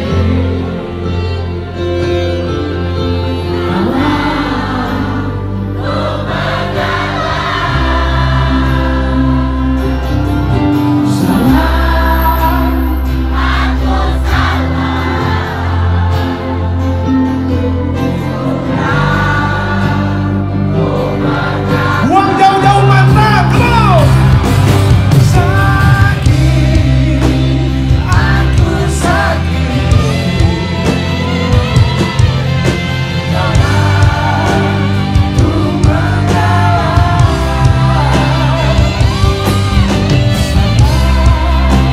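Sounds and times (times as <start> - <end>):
crowd singing along: 0.0 - 41.9
live pop band over loudspeakers: 0.0 - 41.9.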